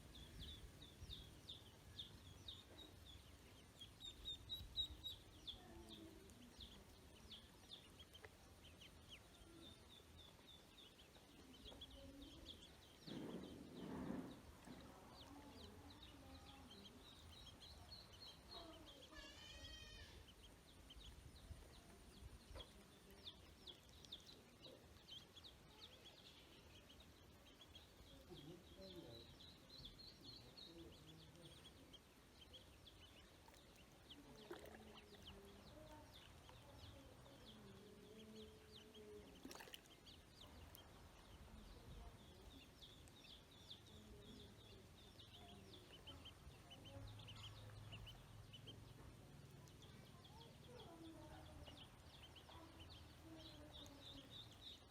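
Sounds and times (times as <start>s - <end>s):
ducklings peeping: 0.0s - 54.9s.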